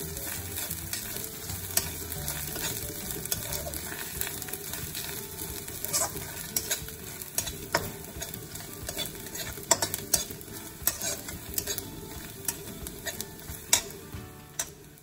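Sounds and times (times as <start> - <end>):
food sizzling in hot oil: 0.0 - 15.0
metal spatula scraping metal pan: 0.0 - 15.0.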